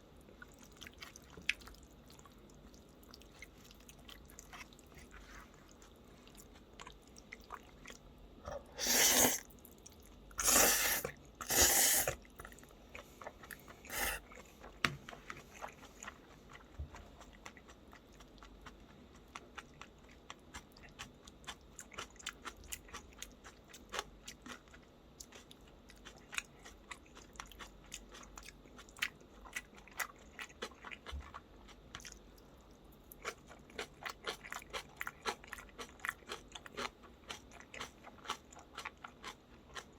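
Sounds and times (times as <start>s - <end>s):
person chewing crunchy food: 0.2s - 39.9s.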